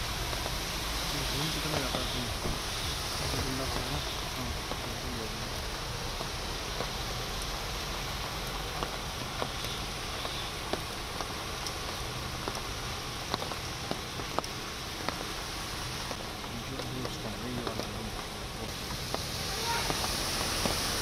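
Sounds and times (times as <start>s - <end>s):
car tyres swishing through water: 0.0s - 21.0s
steady rain on road: 0.0s - 21.0s.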